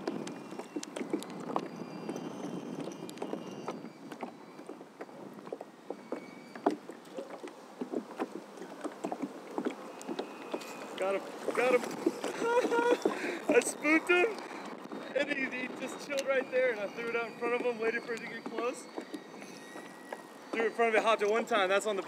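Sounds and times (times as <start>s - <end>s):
water sloshing around kayak: 0.0s - 21.6s.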